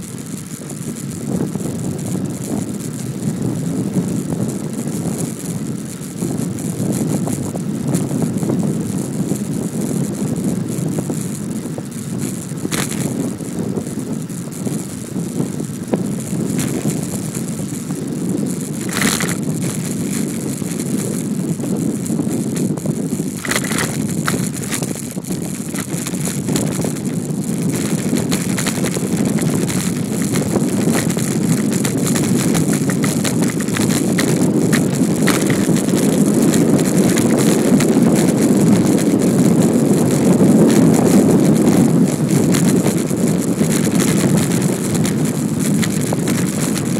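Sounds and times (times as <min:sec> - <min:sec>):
bicycle rattling: 0:00.0 - 0:46.9
bicycle tyre rumble: 0:00.0 - 0:46.9
wind rushing over microphone: 0:00.0 - 0:46.9.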